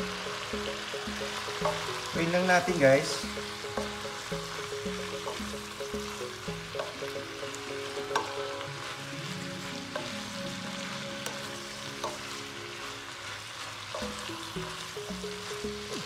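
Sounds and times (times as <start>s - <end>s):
vegetables and shrimp sizzling: 0.0s - 16.0s.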